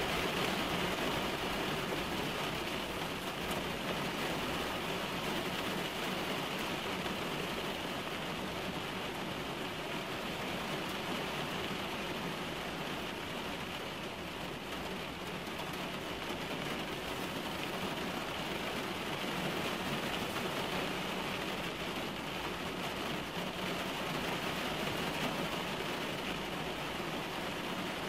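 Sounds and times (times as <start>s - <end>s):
rain on car windshield: 0.0s - 28.0s.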